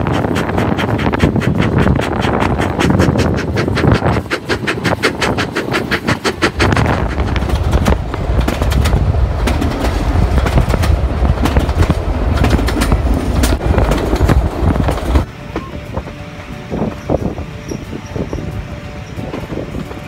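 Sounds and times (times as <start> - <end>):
train carriage rumbling: 0.0 - 20.0
wheels clacking over rails: 0.0 - 20.0.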